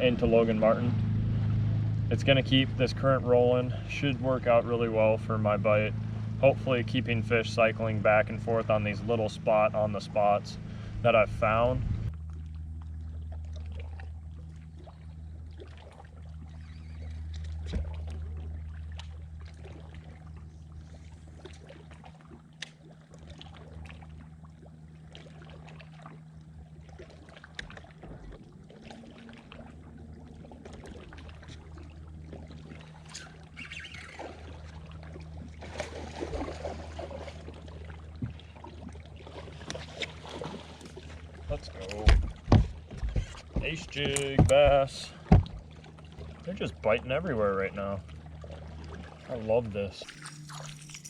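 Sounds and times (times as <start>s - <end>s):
boat motor humming: 0.0s - 51.0s
light water sounds: 0.0s - 51.0s.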